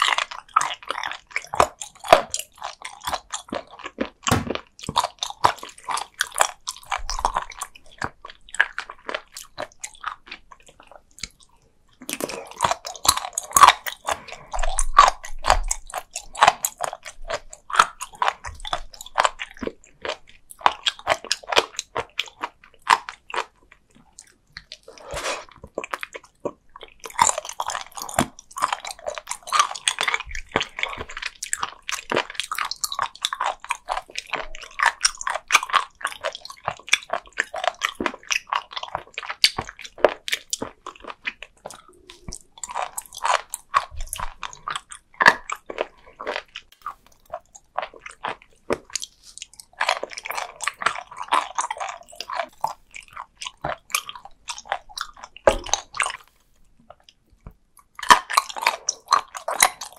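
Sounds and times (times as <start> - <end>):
crisp chewing crunches: 0.0 - 59.9.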